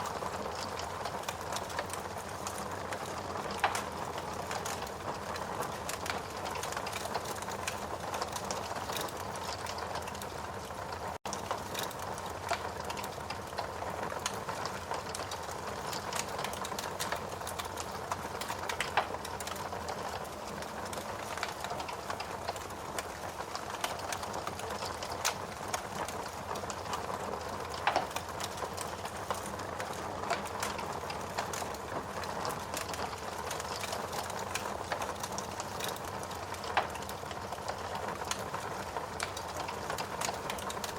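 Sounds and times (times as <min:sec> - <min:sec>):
burning wood snapping: 0:00.0 - 0:10.3, 0:11.3 - 0:19.7, 0:20.3 - 0:38.4, 0:39.2 - 0:40.9
wood fire crackling: 0:00.0 - 0:40.9.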